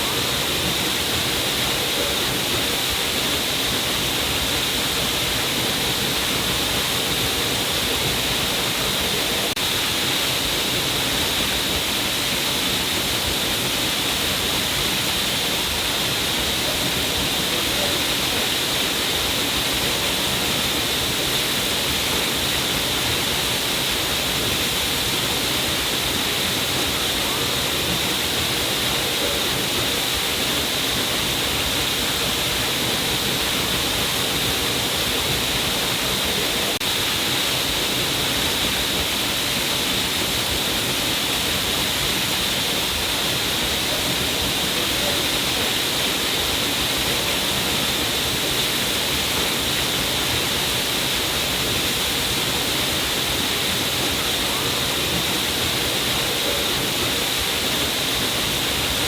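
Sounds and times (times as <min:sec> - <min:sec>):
water falling and splashing: 0:00.0 - 0:59.0.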